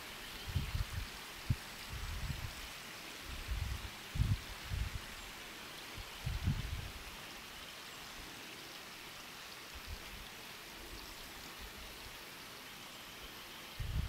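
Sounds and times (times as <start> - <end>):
forest ambience hiss: 0.0 - 14.0.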